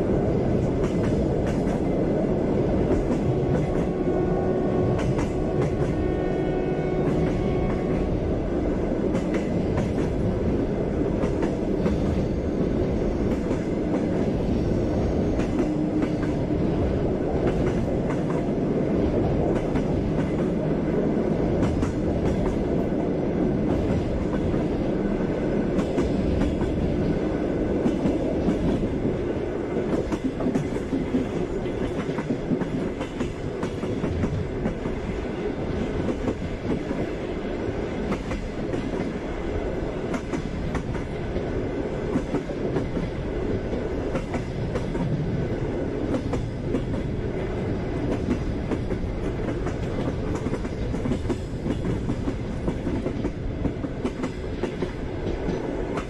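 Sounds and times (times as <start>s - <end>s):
train wheels clattering over rails: 0.0s - 2.0s, 2.7s - 4.1s, 4.8s - 6.2s, 9.0s - 20.7s, 21.5s - 23.0s, 23.6s - 56.0s.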